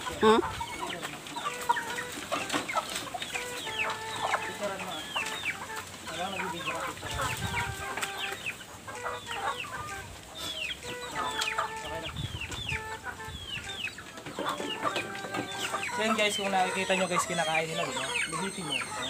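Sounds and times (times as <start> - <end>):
chickens clucking and calling: 0.0 - 19.0.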